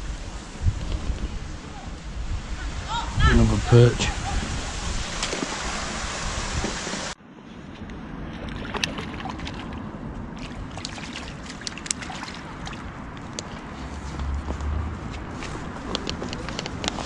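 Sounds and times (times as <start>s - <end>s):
riverside ambience: 0.0s - 17.0s
steady rushing noise: 0.0s - 17.0s.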